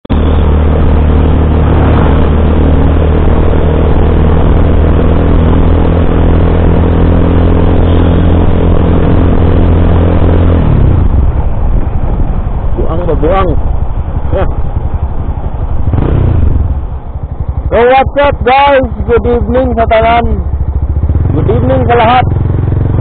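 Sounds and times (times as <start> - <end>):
motorcycle engine cruising: 0.0 - 23.0
wind and road noise: 0.0 - 23.0.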